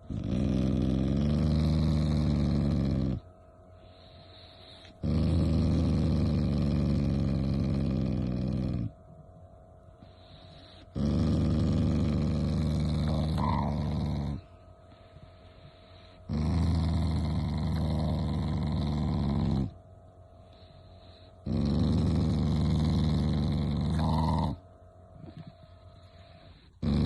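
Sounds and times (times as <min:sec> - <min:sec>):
dog growling: 0:00.0 - 0:03.3, 0:03.9 - 0:09.0, 0:10.0 - 0:14.6, 0:15.7 - 0:19.8, 0:21.3 - 0:27.0.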